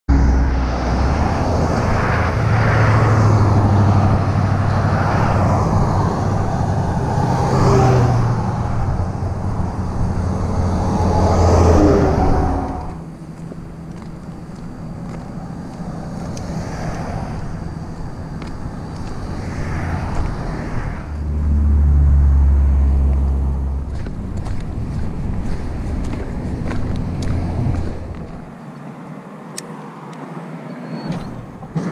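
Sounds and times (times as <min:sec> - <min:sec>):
low traffic rumble: 0:00.1 - 0:31.9
vehicles passing by: 0:00.1 - 0:31.9.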